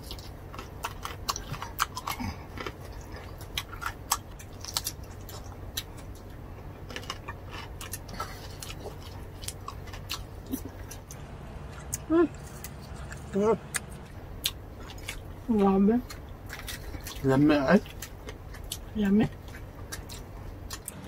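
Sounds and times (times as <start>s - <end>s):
people chewing with mouth clicks: 0.0s - 21.0s.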